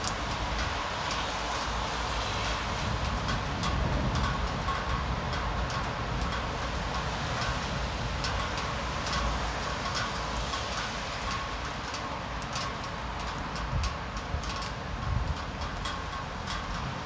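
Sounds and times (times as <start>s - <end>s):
heavy rain: 0.0s - 17.0s
raindrops tapping on surface: 0.0s - 17.0s.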